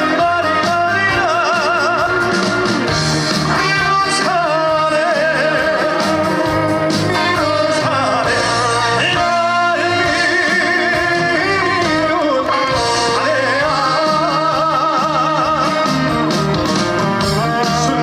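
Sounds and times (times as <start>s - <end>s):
instrumental backing music: 0.0s - 18.0s
man singing with vibrato: 0.0s - 18.0s.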